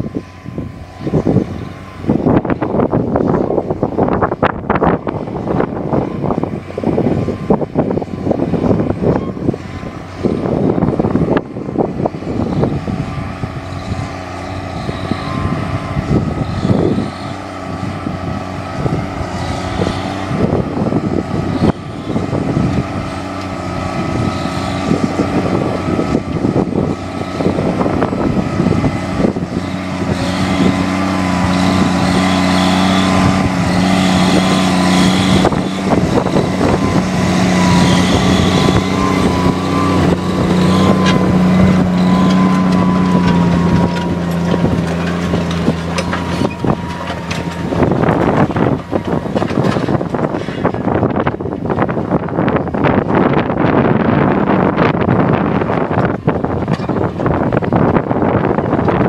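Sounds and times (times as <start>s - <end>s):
high whine: 0.0s - 59.0s
tractor engine under load: 0.0s - 59.0s.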